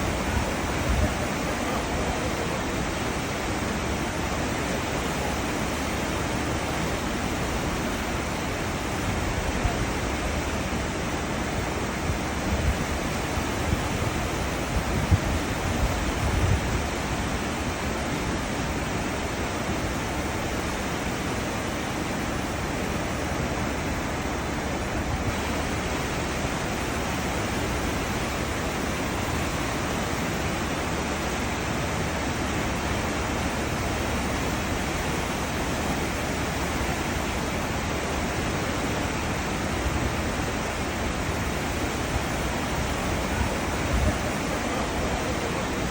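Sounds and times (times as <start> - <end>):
water rushing in ship's wake: 0.0 - 45.9.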